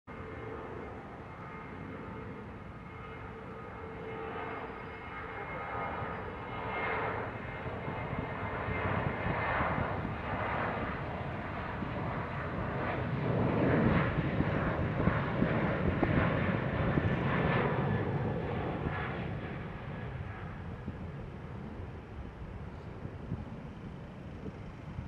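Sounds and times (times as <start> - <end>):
jet engines roaring: 0.1 - 25.0.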